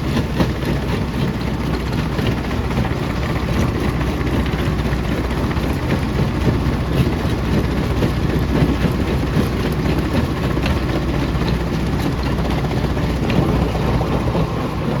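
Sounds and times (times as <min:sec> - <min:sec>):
jaw crusher rumbling: 0:00.0 - 0:15.0.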